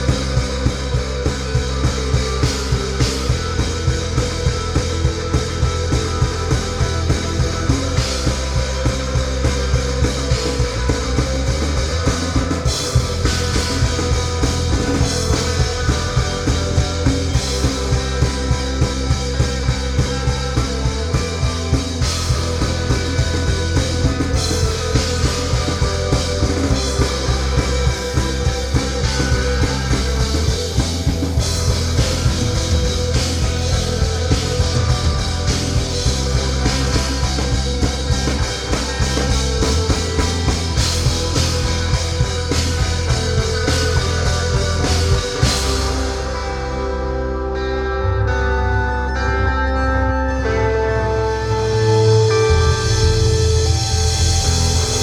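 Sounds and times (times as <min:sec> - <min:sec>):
drum kit beat: 0:00.0 - 0:46.6
rock band playing live: 0:00.0 - 0:55.0.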